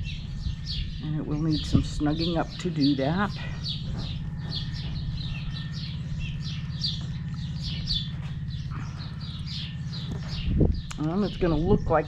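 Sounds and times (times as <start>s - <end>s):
birds chirping: 0.0s - 12.0s
low hum: 0.0s - 12.0s.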